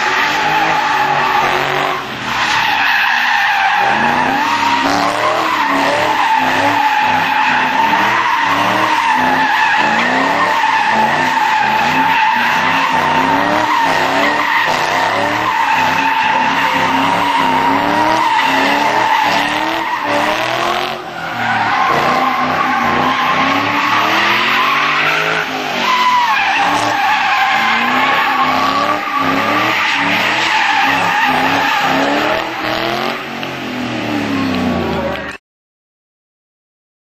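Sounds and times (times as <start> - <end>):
tyres squealing: 0.0 - 33.0
car engine revving: 0.0 - 35.3.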